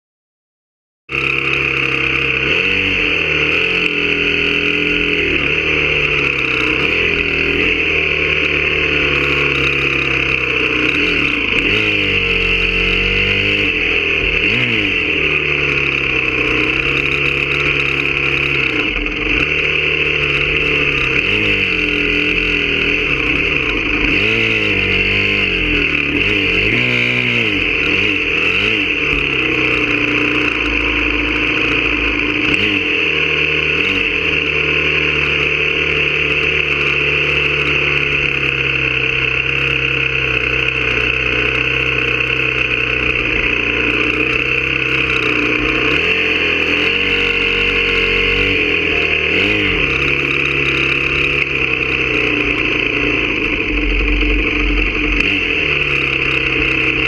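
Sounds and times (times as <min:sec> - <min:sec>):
motorcycle engine revving: 0:01.1 - 0:57.0.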